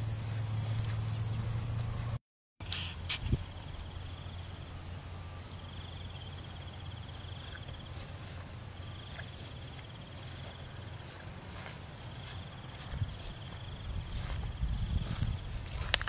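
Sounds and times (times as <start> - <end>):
low hum: 0.0 - 16.0
steady high buzz: 0.0 - 16.0
insects trilling: 3.1 - 16.0.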